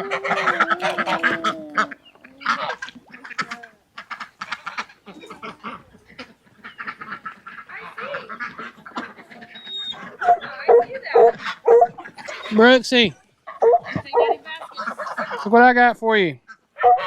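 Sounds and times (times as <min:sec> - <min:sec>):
ducks quacking: 0:00.0 - 0:12.8, 0:13.4 - 0:15.8, 0:16.4 - 0:17.0
geese honking: 0:00.0 - 0:12.8, 0:13.5 - 0:15.6, 0:16.4 - 0:17.0.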